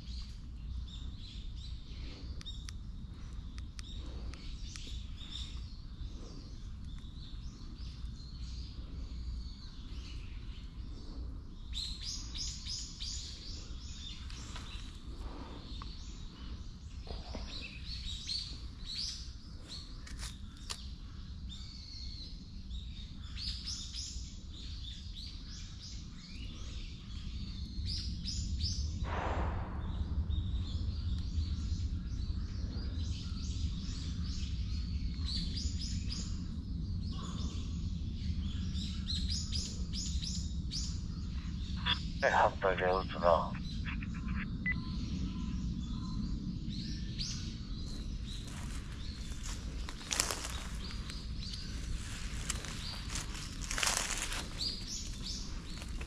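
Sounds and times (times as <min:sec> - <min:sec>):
steady low rumble: 0:00.0 - 0:23.2, 0:24.2 - 0:56.0
birds chirping: 0:00.0 - 0:56.0.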